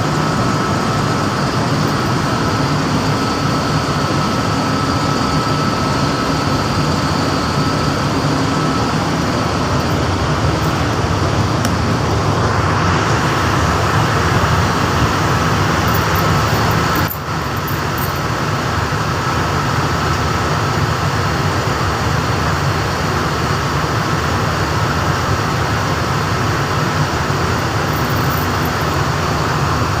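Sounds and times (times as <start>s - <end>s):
faint steady whine: 0.0s - 30.0s
machinery drone: 0.0s - 30.0s.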